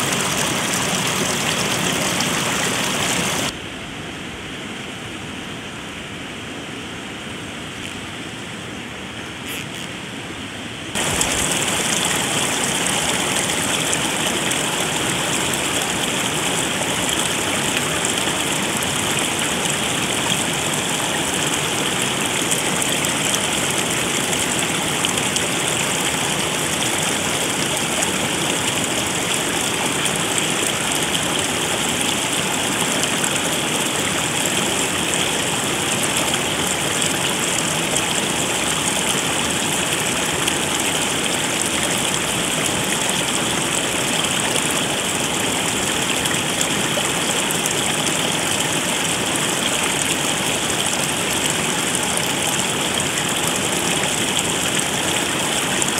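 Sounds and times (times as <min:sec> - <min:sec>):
rushing stream water: 0:00.0 - 0:03.6, 0:10.8 - 0:55.9.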